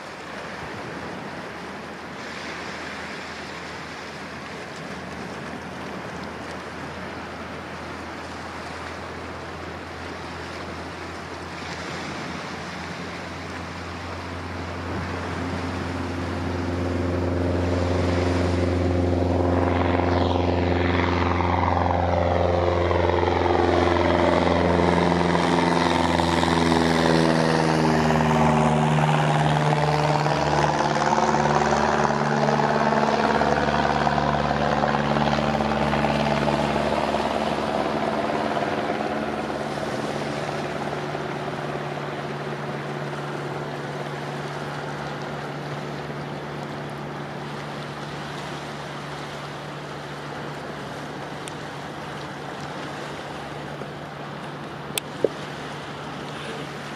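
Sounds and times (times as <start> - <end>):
small plane engine and propeller: 0.0 - 56.9.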